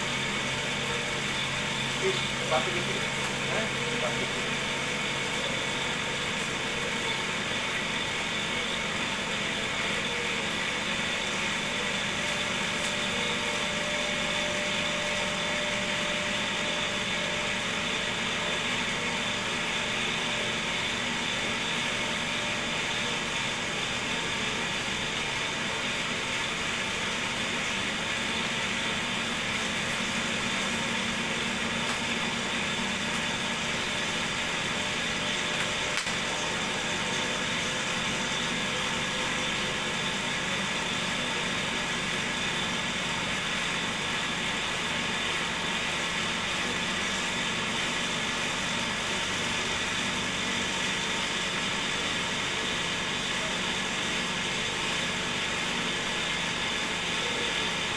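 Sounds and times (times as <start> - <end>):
cotton candy machine whirring: 0.0 - 57.9.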